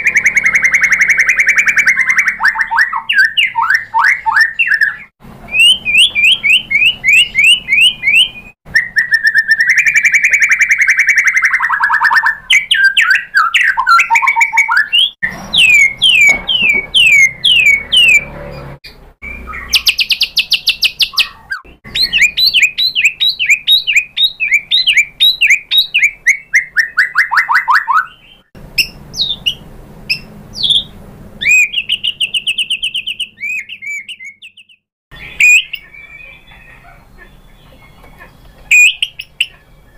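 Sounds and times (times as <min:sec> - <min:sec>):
songbird singing varied phrases: 0:00.0 - 0:39.9.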